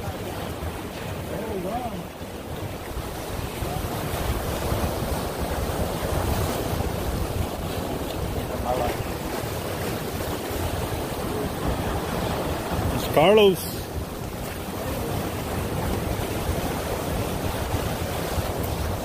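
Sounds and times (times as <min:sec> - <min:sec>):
waves breaking against rocks: 0:00.0 - 0:19.0
wind rumbling on microphone: 0:00.0 - 0:19.0.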